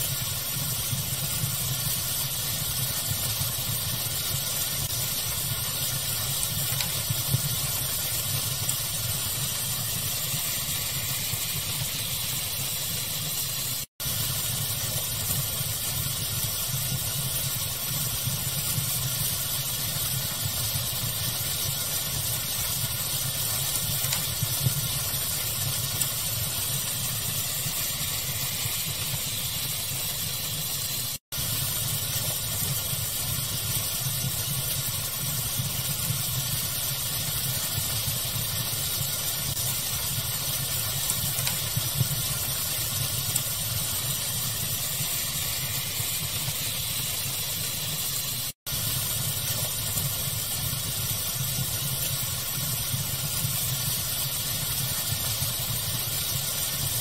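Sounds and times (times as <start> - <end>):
pink noise: 0.0 - 57.0
rushing fire: 0.0 - 57.0.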